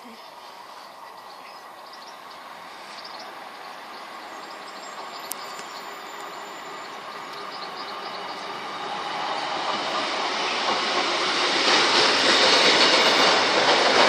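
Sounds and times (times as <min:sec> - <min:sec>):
diesel train running: 0:00.0 - 0:14.0.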